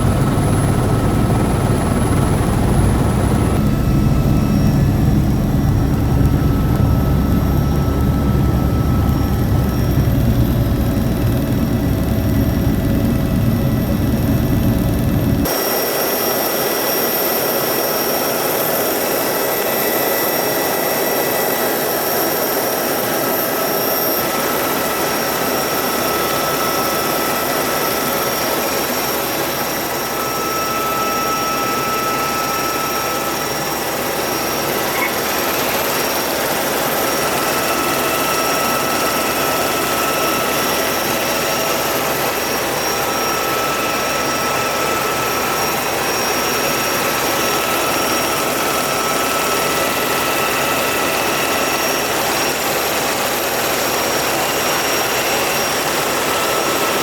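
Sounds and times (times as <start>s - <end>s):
rotor aircraft whine: 0.0s - 57.0s.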